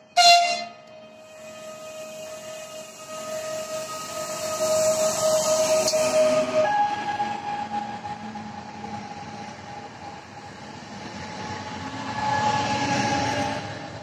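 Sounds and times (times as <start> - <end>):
electric train whine: 0.0 - 14.0
train wheel and running noise: 0.0 - 14.0.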